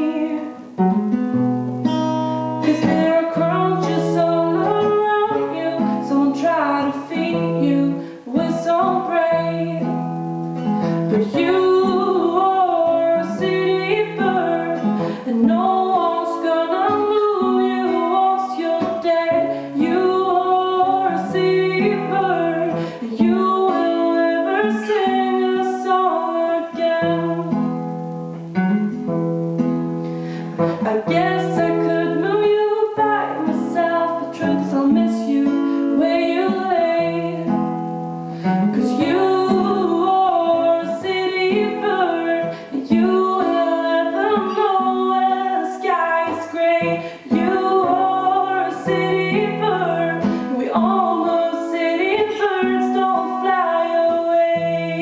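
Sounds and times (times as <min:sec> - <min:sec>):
woman singing: 0:00.0 - 0:01.2, 0:01.8 - 0:27.9, 0:30.2 - 0:55.0
acoustic guitar accompaniment: 0:00.0 - 0:55.0.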